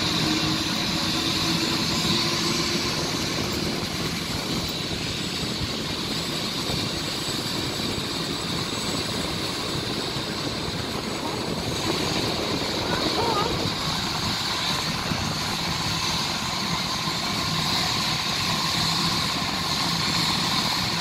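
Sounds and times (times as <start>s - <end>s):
helicopter rotor noise: 0.0s - 21.0s
helicopter turbine whine: 0.0s - 21.0s.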